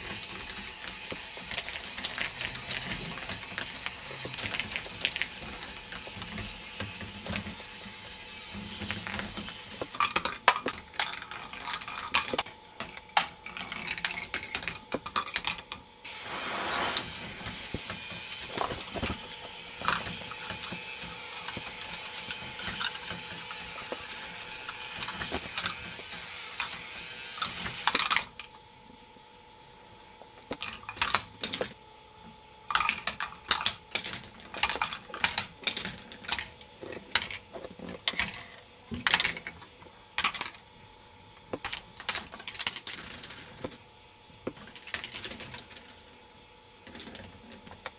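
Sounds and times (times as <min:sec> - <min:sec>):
plastic balls clicking on tracks: 0:00.0 - 0:15.8, 0:16.9 - 0:28.5, 0:30.5 - 0:31.8, 0:32.7 - 0:39.6, 0:40.2 - 0:40.6, 0:41.6 - 0:43.8, 0:44.5 - 0:47.9
faint steady hum: 0:00.0 - 0:47.9.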